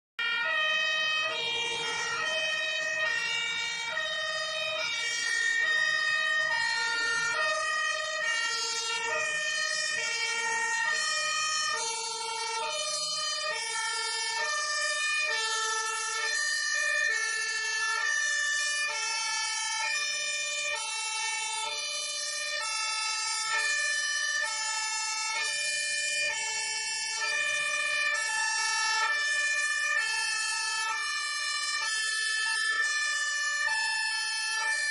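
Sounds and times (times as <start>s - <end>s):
fire engine two-tone siren: 0.2s - 34.9s.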